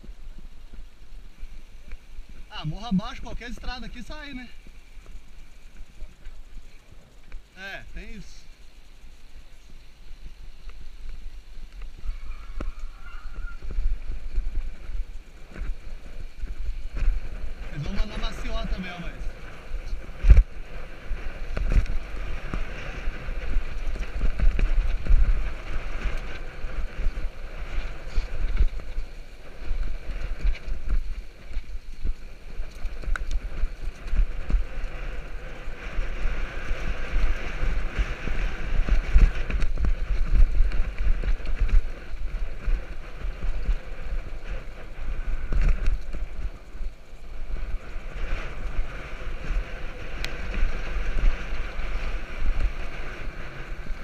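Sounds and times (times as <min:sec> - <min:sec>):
bike rattling over bumps: 0:00.0 - 0:12.0, 0:13.6 - 0:54.0
tyres hissing on dirt: 0:00.0 - 0:54.0
wind buffeting microphone: 0:00.0 - 0:54.0.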